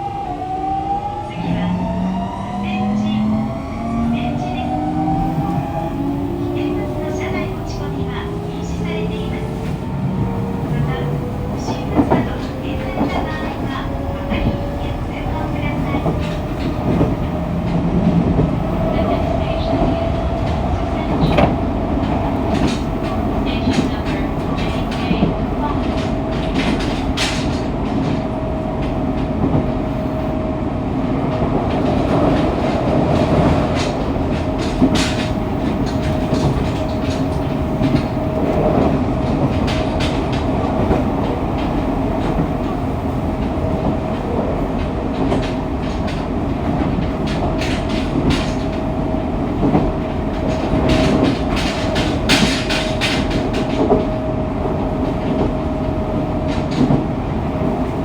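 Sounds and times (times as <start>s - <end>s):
train rumble with whine: 0.0s - 58.0s
wheels clicking over rail joints: 5.4s - 29.7s, 31.4s - 58.0s.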